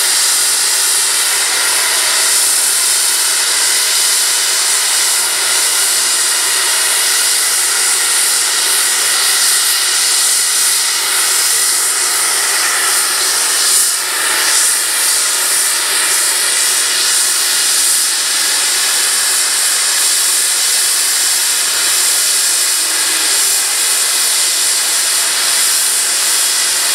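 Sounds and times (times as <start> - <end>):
steam hissing from safety valves: 0.0 - 26.9.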